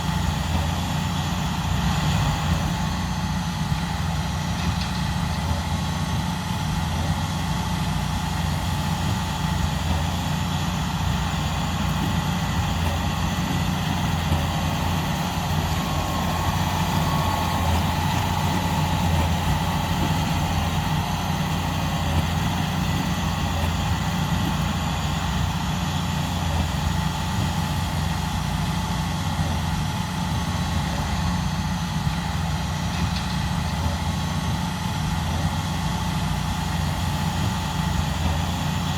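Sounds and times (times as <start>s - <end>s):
high-pitched engine whine: 0.0s - 38.9s
tractor diesel engine droning: 0.0s - 38.9s.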